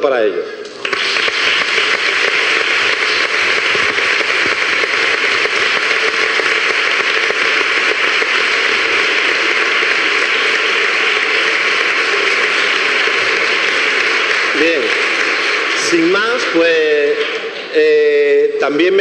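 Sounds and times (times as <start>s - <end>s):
audience applauding: 0.6s - 18.3s.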